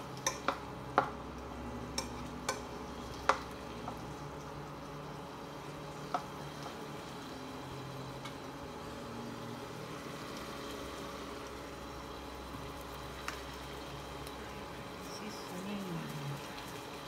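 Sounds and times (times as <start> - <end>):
chicken and onion sizzling in pan: 0.0 - 17.0.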